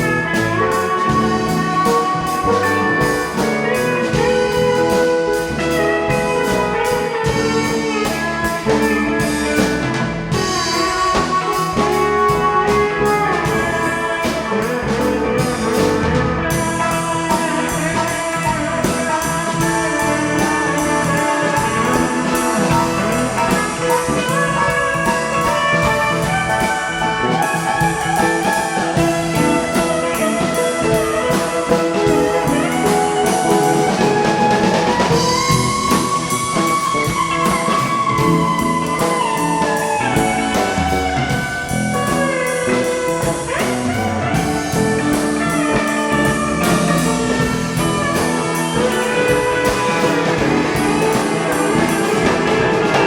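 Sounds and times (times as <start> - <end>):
rock band jamming: 0.0 - 53.0
sliding lead guitar line: 0.0 - 53.0.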